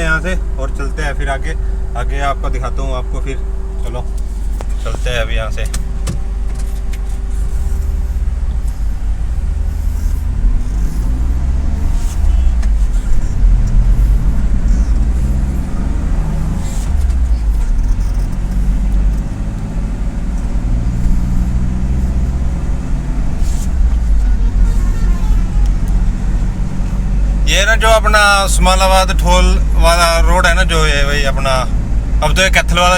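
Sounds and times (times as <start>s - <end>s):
road rumble: 0.0s - 32.9s
truck engine running: 0.0s - 32.9s.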